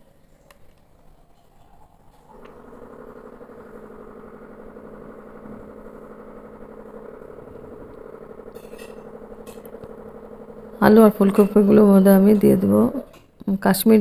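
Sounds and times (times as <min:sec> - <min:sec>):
motor humming with fast flutter: 0:01.3 - 0:13.4.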